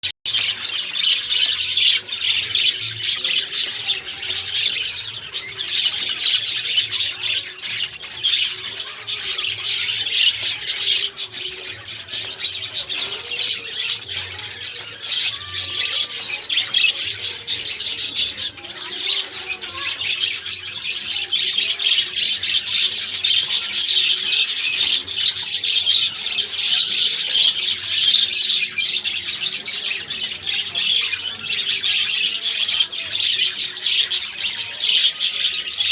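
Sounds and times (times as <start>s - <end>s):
lovebirds chirping and squawking: 0.3s - 35.9s.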